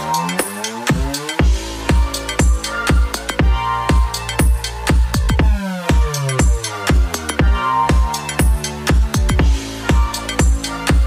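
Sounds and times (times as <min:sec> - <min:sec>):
kick drum beat: 0:00.4 - 0:11.0.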